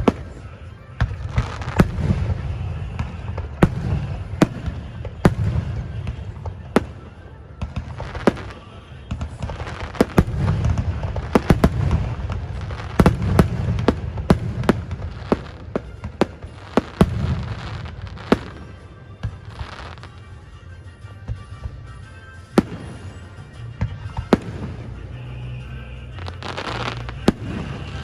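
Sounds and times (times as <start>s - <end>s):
fireworks bursting: 0.0s - 28.0s
music: 0.0s - 28.0s.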